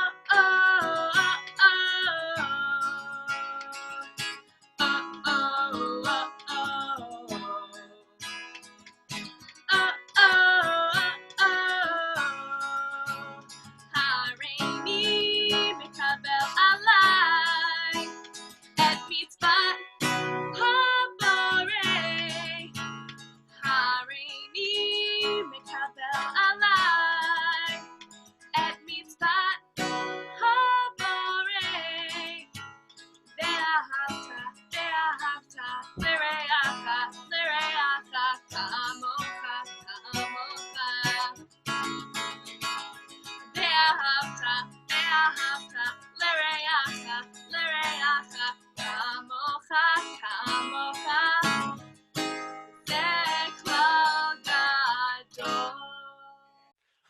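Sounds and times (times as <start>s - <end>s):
person singing: 0.0s - 4.2s, 4.8s - 8.1s, 9.7s - 18.2s, 18.8s - 22.8s, 23.6s - 27.9s, 28.6s - 32.6s, 33.4s - 42.0s, 43.6s - 51.8s, 52.9s - 56.5s
strummed acoustic guitar: 0.0s - 56.0s.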